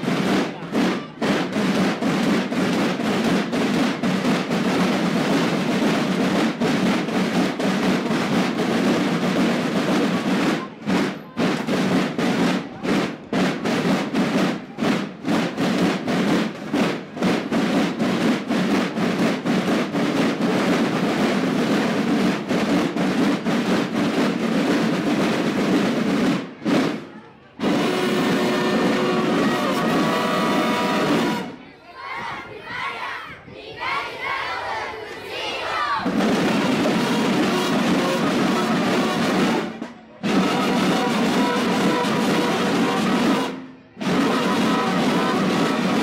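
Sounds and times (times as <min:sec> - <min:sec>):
snare and bass drums marching: 0:00.0 - 0:31.6, 0:35.7 - 0:46.0.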